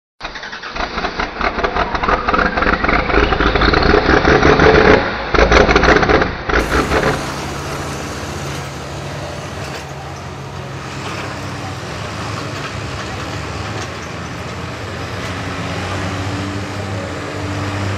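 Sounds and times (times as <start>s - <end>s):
tractor engine running: 0.2s - 17.9s
loud engine revving: 0.4s - 17.9s.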